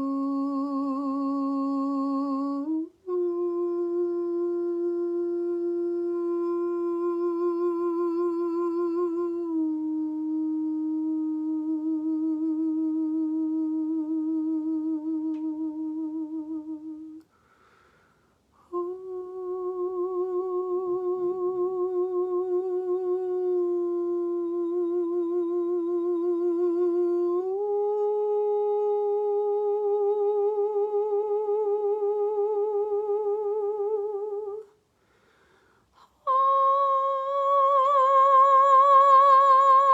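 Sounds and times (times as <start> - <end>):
woman singing wordless held notes: 0.0 - 17.4, 18.6 - 35.2, 35.9 - 39.9.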